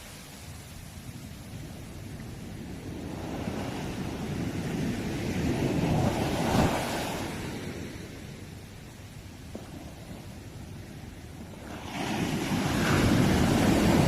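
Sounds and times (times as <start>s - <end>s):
sea waves breaking on shore: 0.0s - 14.0s.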